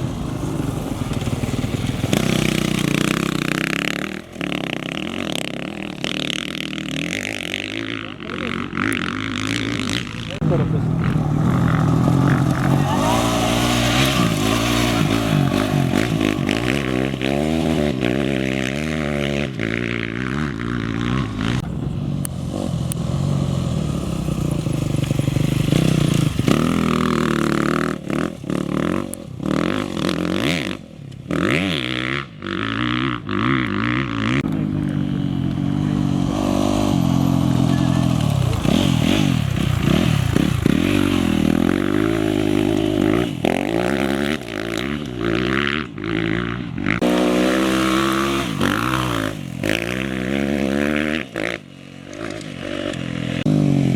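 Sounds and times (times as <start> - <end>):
motorcycle and quad engines revving: 0.0 - 53.9.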